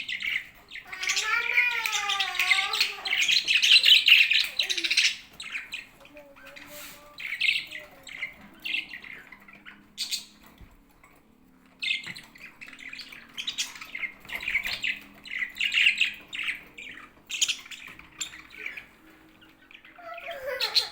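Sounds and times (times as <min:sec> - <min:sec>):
budgerigars chirping and squawking: 0:00.0 - 0:20.9.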